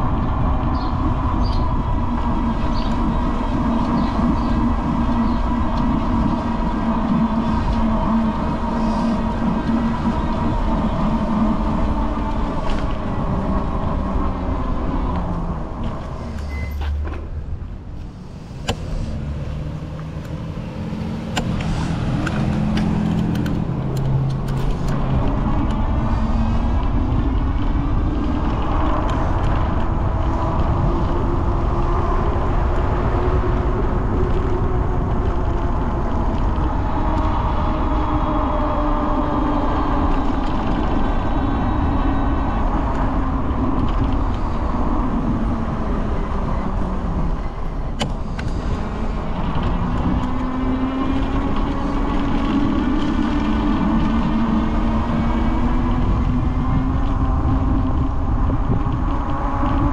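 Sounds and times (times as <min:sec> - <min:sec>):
road rumble: 0:00.0 - 0:59.9
vehicle engine: 0:00.0 - 0:59.9.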